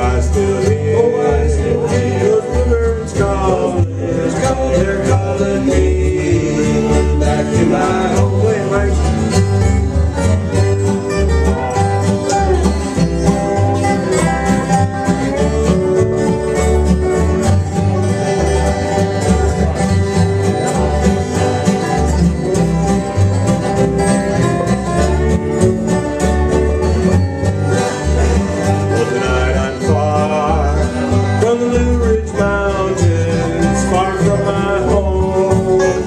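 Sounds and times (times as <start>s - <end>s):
alternating bass line: 0.0s - 36.0s
fast banjo picking: 0.0s - 36.0s
guitar: 0.0s - 36.0s.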